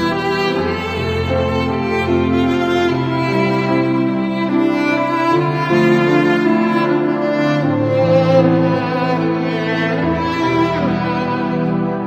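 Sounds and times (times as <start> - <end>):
cello: 0.0 - 12.0
violin: 0.0 - 12.0.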